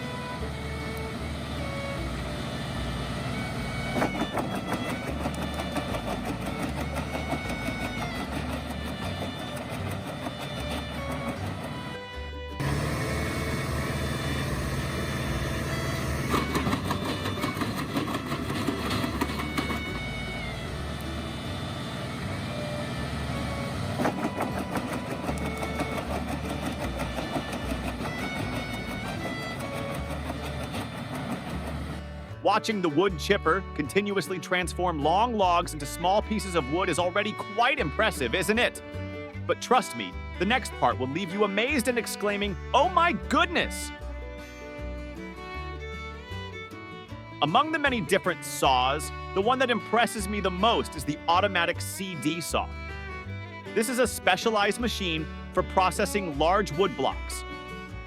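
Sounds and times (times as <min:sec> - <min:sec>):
wood chipper chewing logs: 0:00.0 - 0:58.0.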